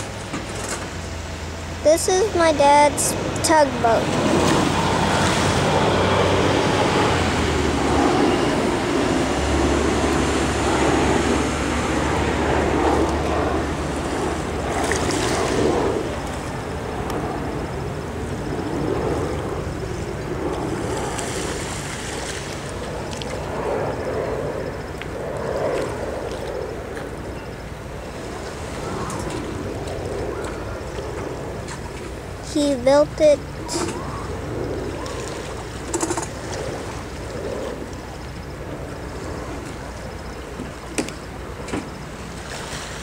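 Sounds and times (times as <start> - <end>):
low steady hum: 0.0 - 43.0
wind rushing over microphone: 0.0 - 43.0.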